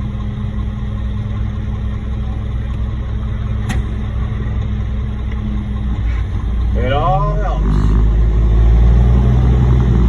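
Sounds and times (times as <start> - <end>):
diesel truck engine idling: 0.0 - 9.7.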